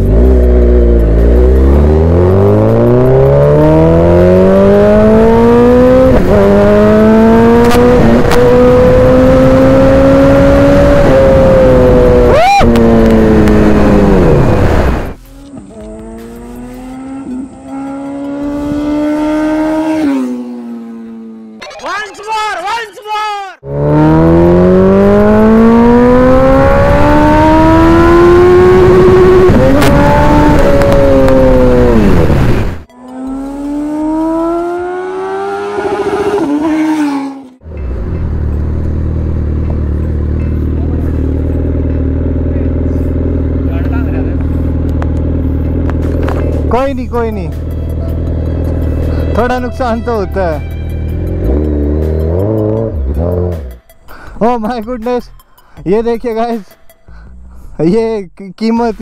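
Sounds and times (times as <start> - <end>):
motorcycle engine accelerating hard: 0.0 - 21.6, 23.6 - 49.8, 51.0 - 53.8.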